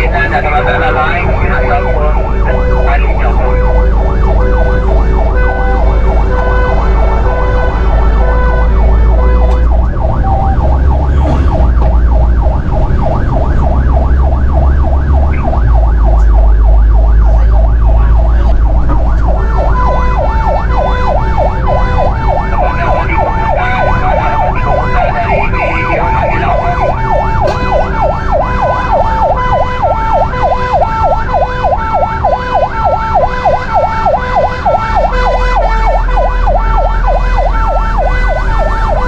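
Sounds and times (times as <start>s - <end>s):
fire engine siren: 0.0s - 39.0s
truck engine running low: 0.0s - 39.0s.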